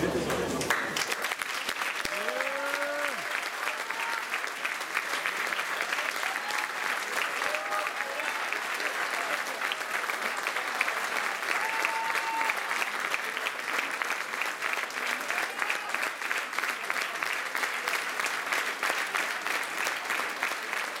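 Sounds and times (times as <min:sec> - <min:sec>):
crowd clapping: 0:00.0 - 0:21.0.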